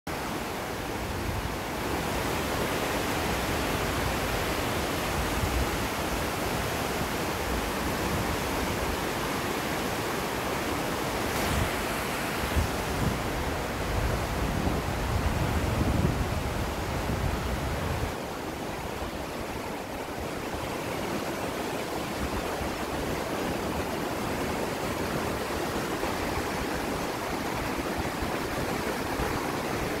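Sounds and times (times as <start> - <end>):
floodwater rushing: 0.2 - 30.0.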